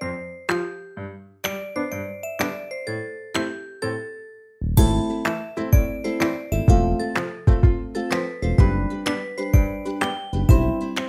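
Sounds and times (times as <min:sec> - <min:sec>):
bell-like music notes: 0:01.5 - 0:11.0.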